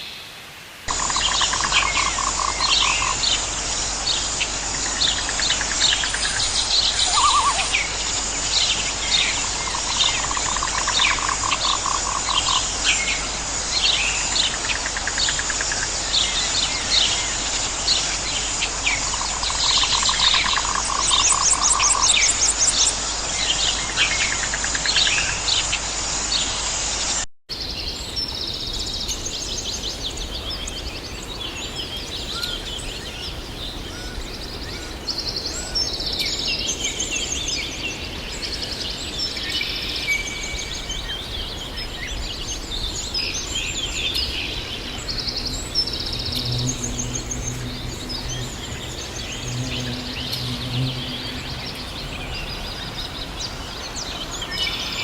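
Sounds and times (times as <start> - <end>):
birds singing and chirping: 0.9 - 25.7, 27.6 - 55.0.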